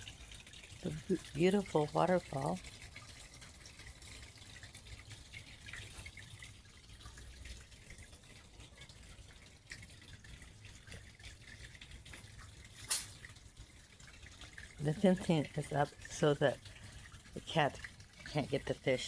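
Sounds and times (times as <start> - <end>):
small water drips: 0.0 - 19.0
water trickling into pond: 0.0 - 19.0.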